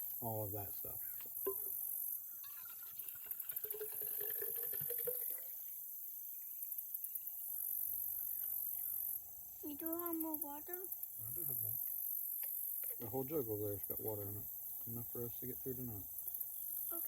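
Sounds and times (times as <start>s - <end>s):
insects buzzing shrill: 0.0s - 17.0s.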